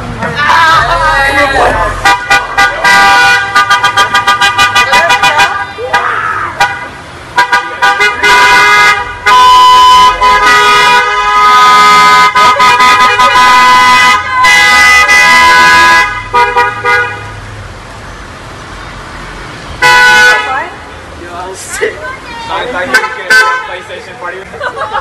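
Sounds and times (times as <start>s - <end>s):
cars driving slowly past: 0.0s - 25.0s
car horns honking: 0.2s - 17.5s, 19.8s - 20.9s, 22.3s - 24.1s.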